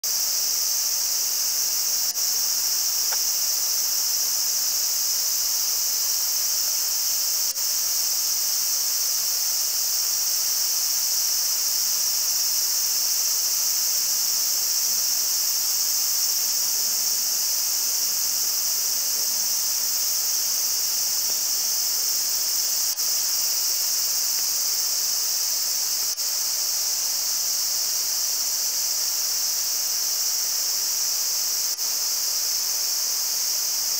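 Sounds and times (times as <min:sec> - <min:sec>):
insects chorus: 0:00.0 - 0:33.9.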